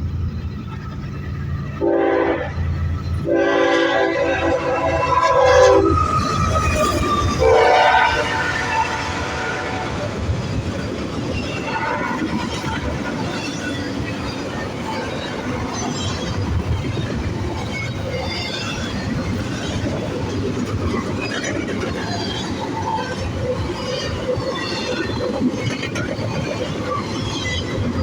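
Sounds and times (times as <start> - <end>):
freight train wheels clattering: 4.0 - 28.0.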